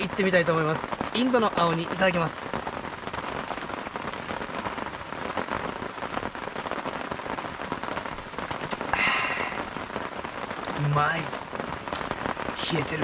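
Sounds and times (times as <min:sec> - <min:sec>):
torrential rain: 0:00.0 - 0:13.0.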